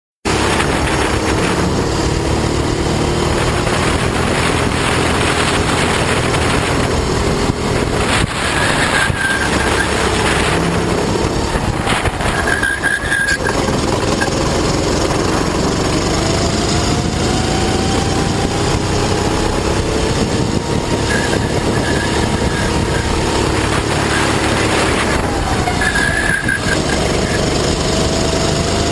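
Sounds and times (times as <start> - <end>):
kart engine revving: 0.3 - 28.9.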